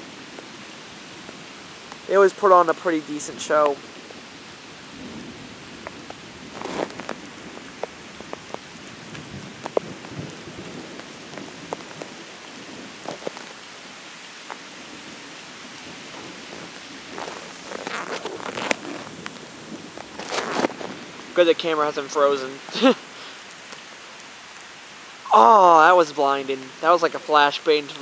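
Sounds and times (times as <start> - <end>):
sharp raindrops near microphone: 0.0 - 28.0
steady rain falling: 0.0 - 28.0.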